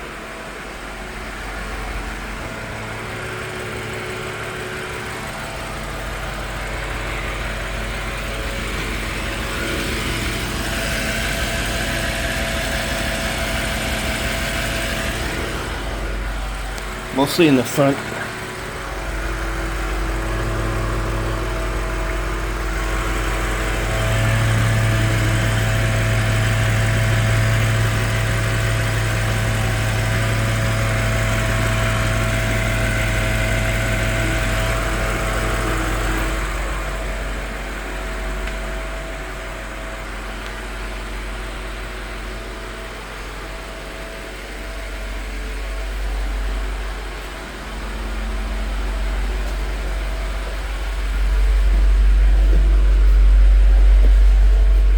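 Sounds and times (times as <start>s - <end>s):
car engine idling: 0.0s - 54.9s
steady engine tone: 0.0s - 54.9s.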